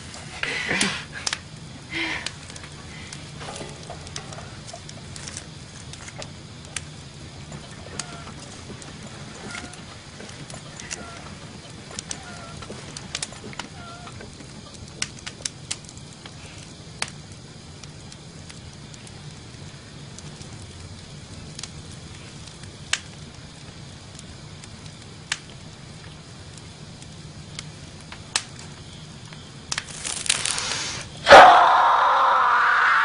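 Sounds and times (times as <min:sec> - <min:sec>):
low steady hum: 0:00.0 - 0:30.4
wood fire crackling: 0:00.0 - 0:33.0.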